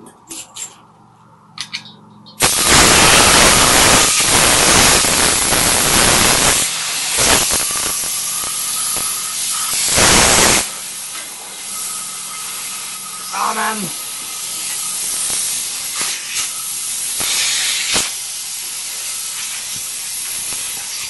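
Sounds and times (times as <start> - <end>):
compressed air gun hissing: 2.4 - 21.0.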